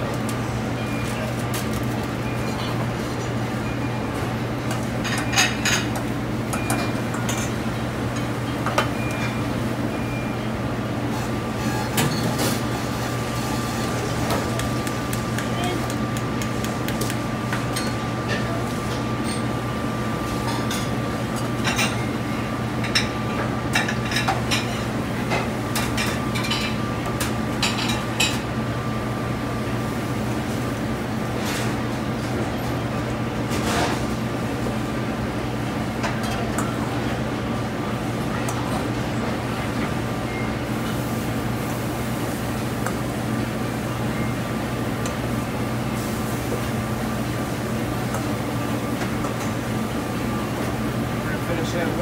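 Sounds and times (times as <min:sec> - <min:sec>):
kitchen equipment humming: 0:00.0 - 0:52.0.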